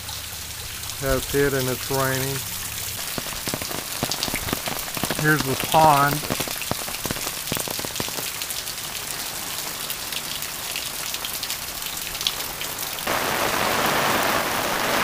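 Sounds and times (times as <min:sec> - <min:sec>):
heavy rain falling: 0:00.0 - 0:15.0
raindrops ticking close by: 0:00.0 - 0:15.0.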